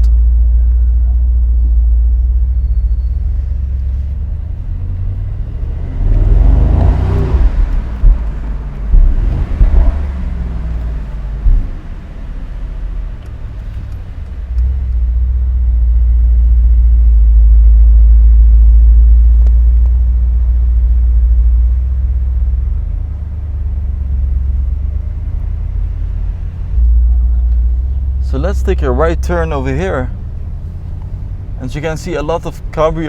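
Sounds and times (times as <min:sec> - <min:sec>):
car engine deep rumble: 0:00.0 - 0:33.0.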